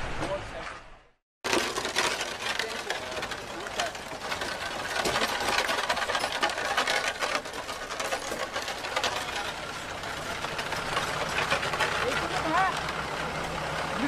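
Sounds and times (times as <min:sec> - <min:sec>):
bullock cart rattling past: 0:01.4 - 0:14.0.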